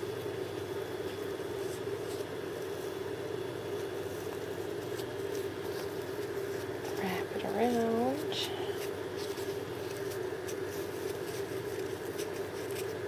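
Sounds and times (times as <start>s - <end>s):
background hum: 0.0s - 13.0s
paper towel rustling: 1.0s - 13.0s.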